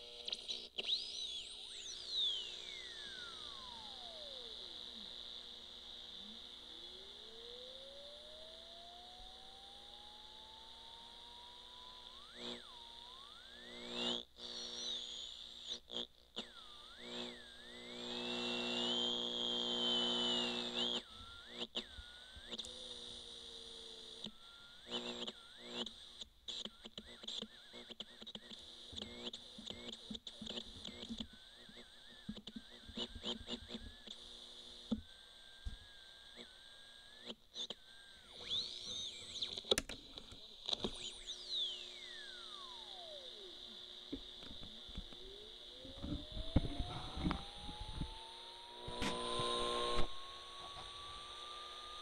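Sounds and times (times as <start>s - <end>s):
electronic whistles and squeals: 0.0s - 4.7s, 6.8s - 15.8s, 16.4s - 34.2s, 35.1s - 39.7s, 40.8s - 43.8s, 44.7s - 52.0s
steady high whine: 0.0s - 52.0s.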